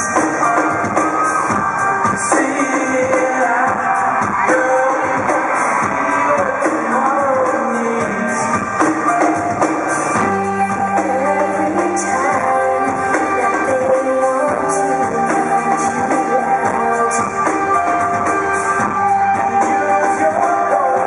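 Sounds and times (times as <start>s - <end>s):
live pop-rock band: 0.0s - 21.0s
man singing: 2.1s - 9.2s, 10.1s - 21.0s.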